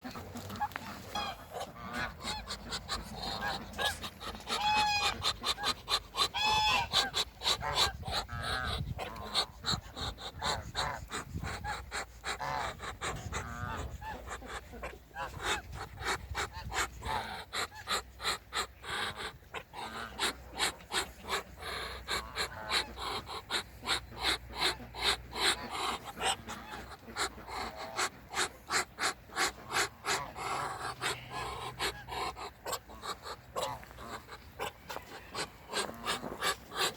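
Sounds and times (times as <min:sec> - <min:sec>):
ducks quacking: 0:00.0 - 0:36.9
geese honking: 0:00.0 - 0:36.9.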